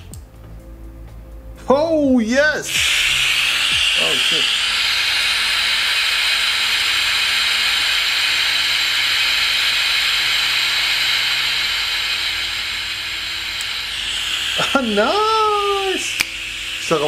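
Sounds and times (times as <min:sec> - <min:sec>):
radio static hiss: 0:02.6 - 0:17.0.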